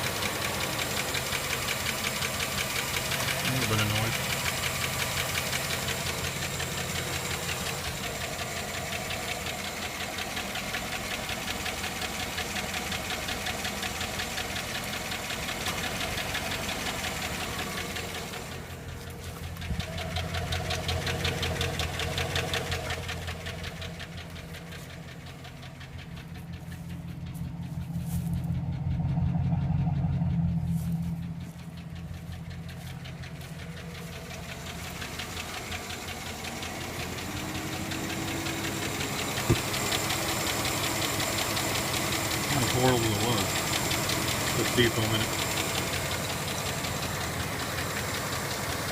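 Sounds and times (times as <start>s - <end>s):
car engine running: 0.0s - 48.9s
fast regular engine knock: 0.0s - 48.9s.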